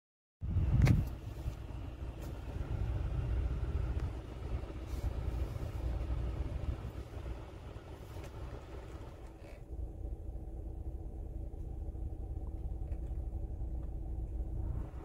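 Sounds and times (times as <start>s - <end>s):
car cabin rumble: 0.4s - 15.0s.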